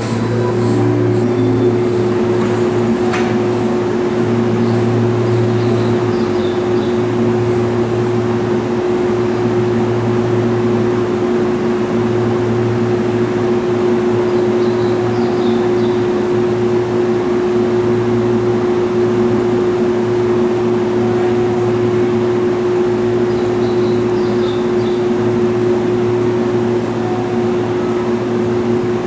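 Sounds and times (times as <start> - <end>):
electric train humming: 0.0 - 29.0.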